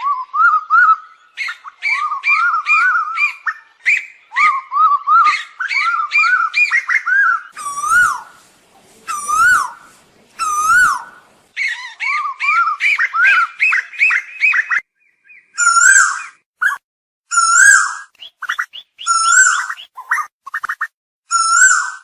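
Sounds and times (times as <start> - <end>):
bird calling whistled notes: 0.0 - 8.4, 9.0 - 22.0.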